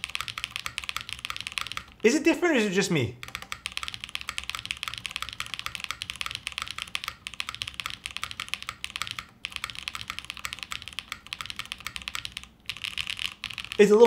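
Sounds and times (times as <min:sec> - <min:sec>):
fast typing on mechanical keyboard: 0:00.0 - 0:02.2, 0:03.2 - 0:13.9.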